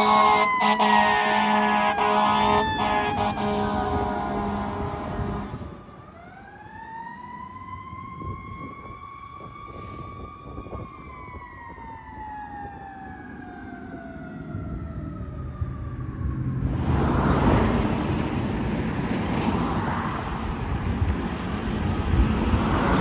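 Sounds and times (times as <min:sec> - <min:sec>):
fire engine siren wailing: 0:00.0 - 0:23.0.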